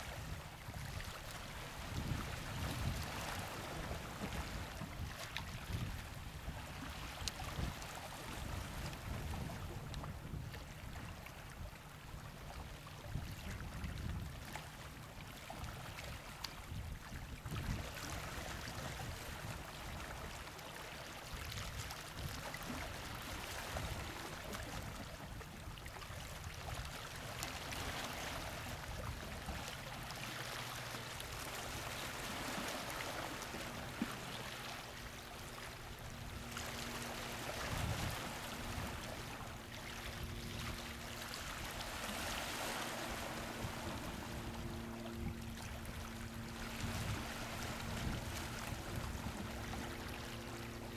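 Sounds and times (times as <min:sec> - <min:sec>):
water lapping against rocks: 0:00.1 - 0:11.4, 0:12.7 - 0:50.9.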